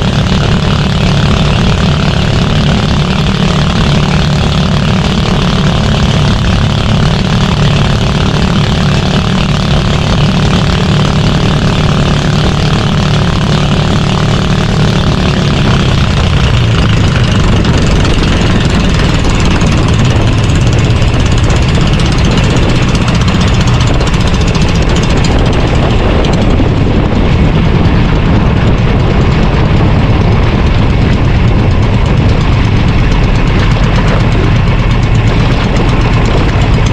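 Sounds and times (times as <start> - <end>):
boat engine running: 0.0 - 36.9
continuous rushing noise: 0.0 - 36.9.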